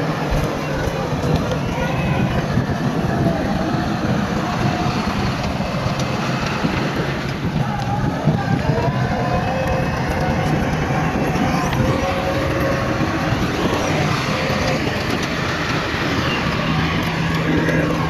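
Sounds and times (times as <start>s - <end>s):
heavy diesel machinery rumble: 0.0s - 18.0s.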